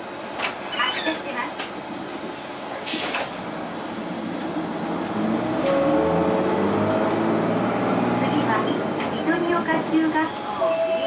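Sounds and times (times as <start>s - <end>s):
bus diesel engine: 0.0s - 11.0s.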